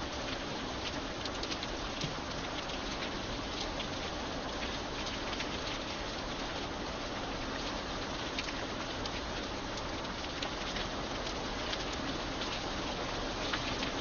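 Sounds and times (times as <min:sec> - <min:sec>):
rain on a hard surface: 0:00.0 - 0:14.0.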